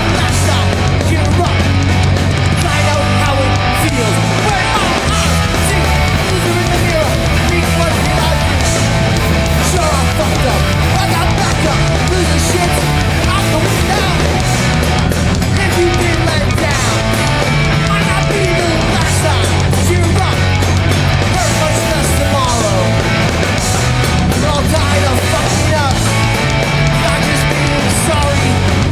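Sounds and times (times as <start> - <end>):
punk band playing live: 0.0 - 28.9.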